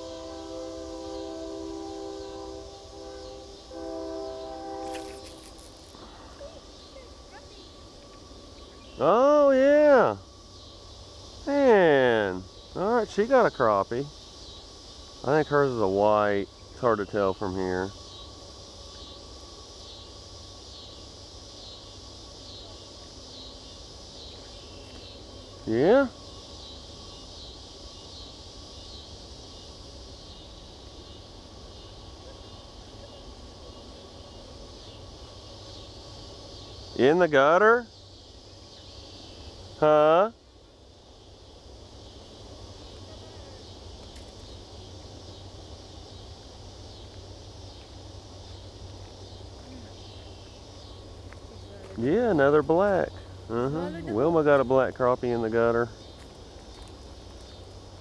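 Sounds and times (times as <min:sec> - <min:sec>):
chorus of insects: 0:00.0 - 0:58.0.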